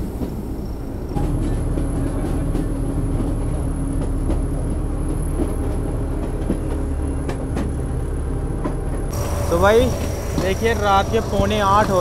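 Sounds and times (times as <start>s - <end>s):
train coaches rumbling: 0.0s - 12.0s.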